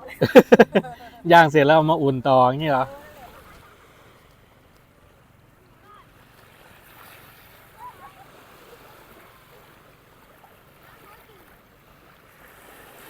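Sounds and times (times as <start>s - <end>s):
faint distant voices: 0.0s - 12.4s
sea surf washing on beach: 0.0s - 13.0s.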